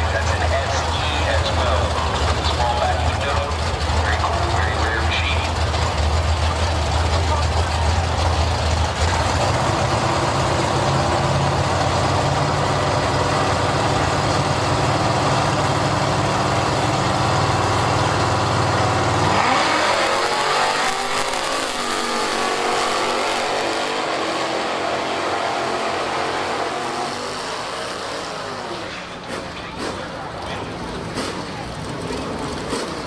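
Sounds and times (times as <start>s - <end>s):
drag racing car engine: 0.0s - 33.0s.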